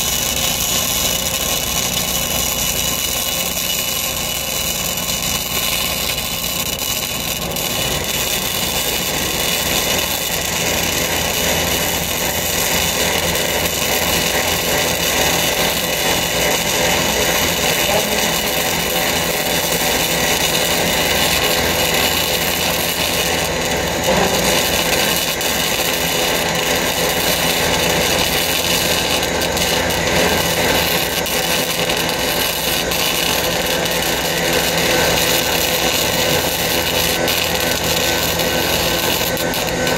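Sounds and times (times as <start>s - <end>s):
welding arc sizzling: 0.0s - 39.9s.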